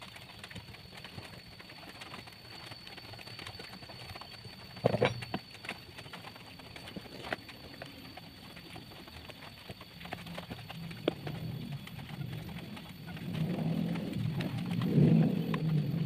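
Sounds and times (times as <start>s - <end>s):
wooden and metal parts clicking: 0.0s - 16.0s.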